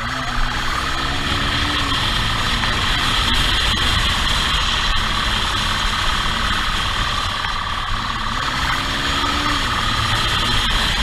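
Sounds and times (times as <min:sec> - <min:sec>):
high-pitched hum: 0:00.0 - 0:11.0
vehicle engine idling: 0:00.0 - 0:11.0.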